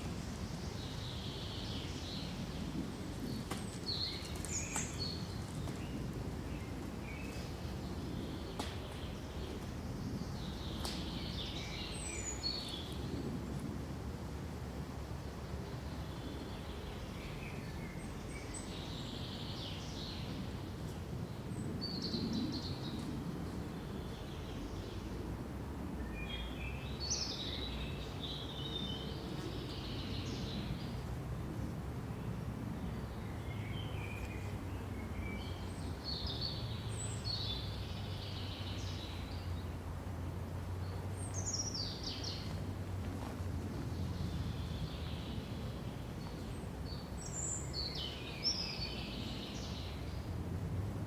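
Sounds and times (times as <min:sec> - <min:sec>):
songbirds chirping and trilling: 0:00.0 - 0:14.2, 0:15.0 - 0:50.6.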